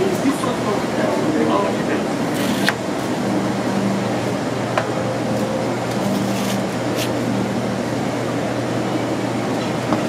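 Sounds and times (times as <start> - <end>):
kitchen ventilation drone: 0.0 - 10.0.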